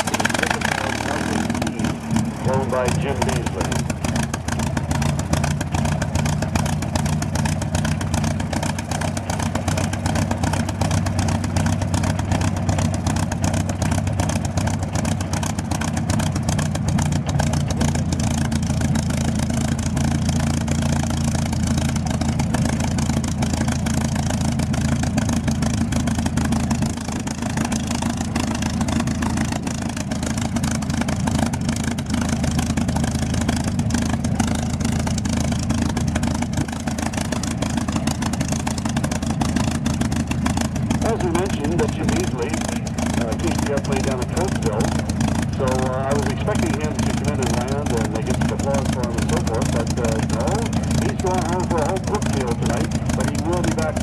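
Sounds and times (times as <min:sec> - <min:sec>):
piston aircraft engine humming: 0:00.0 - 0:54.0.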